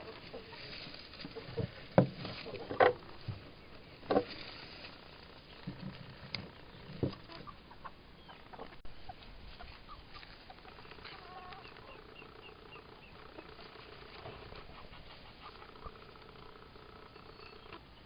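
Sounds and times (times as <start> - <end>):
chicks peeping: 0.0 - 18.0
hens clucking: 0.0 - 18.0.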